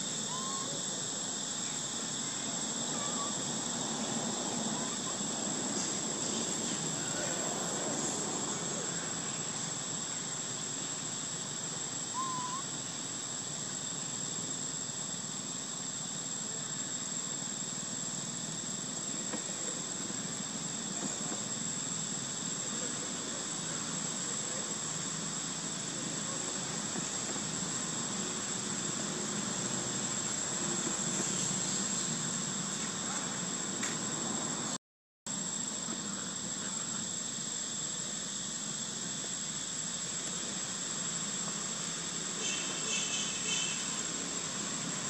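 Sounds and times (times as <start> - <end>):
constant hiss: 0.0 - 45.0
insects droning: 0.0 - 45.0.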